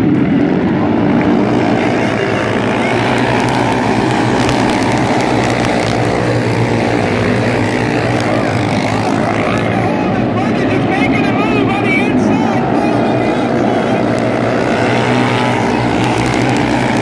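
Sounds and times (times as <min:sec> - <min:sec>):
racing car engines droning: 0:00.0 - 0:17.0.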